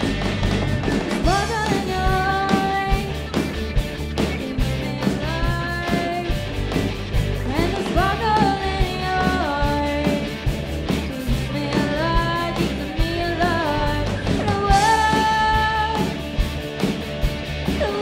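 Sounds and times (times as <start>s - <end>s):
live rock band playing: 0.0s - 18.0s
steady drum beat: 0.0s - 18.0s.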